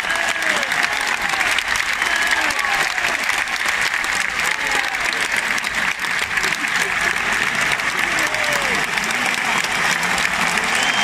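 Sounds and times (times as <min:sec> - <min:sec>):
large crowd applauding: 0:00.0 - 0:11.0.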